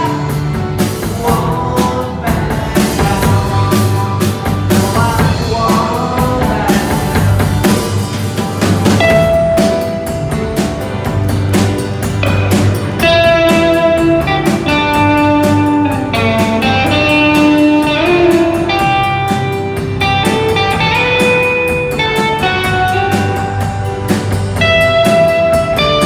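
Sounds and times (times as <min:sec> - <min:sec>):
bass guitar: 0:00.0 - 0:26.0
drum kit: 0:00.0 - 0:26.0
electric guitar lead: 0:00.0 - 0:26.0.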